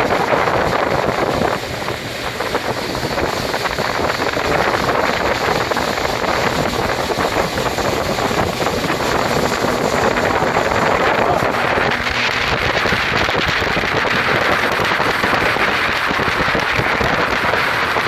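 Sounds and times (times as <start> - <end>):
outboard motor drone: 0.0 - 18.0
water rushing: 0.0 - 18.0
wind buffeting microphone: 0.0 - 18.0.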